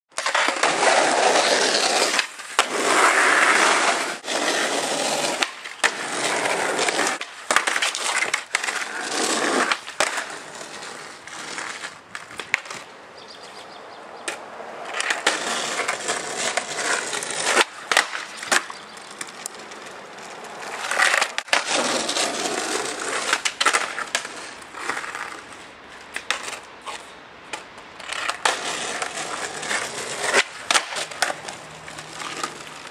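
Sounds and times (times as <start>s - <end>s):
skateboard clacks: 0.1s - 13.6s, 14.2s - 32.9s
skateboard wheels rolling on asphalt: 0.1s - 32.9s.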